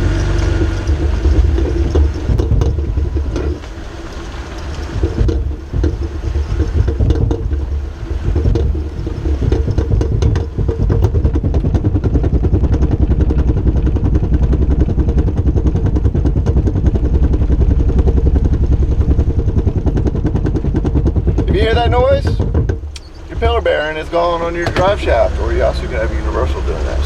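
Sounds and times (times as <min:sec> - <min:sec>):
car driving with clattering drone: 0:00.0 - 0:27.0.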